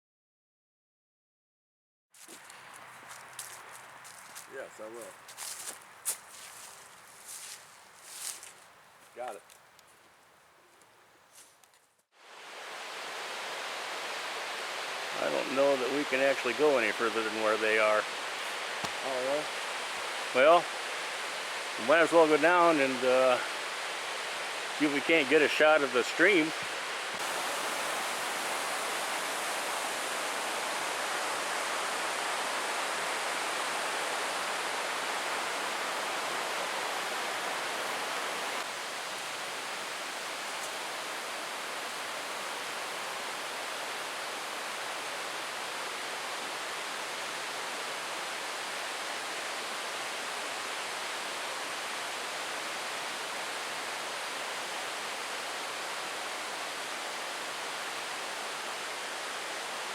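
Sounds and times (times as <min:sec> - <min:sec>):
stream water flowing: 0:02.2 - 0:10.3, 0:12.2 - 0:59.9.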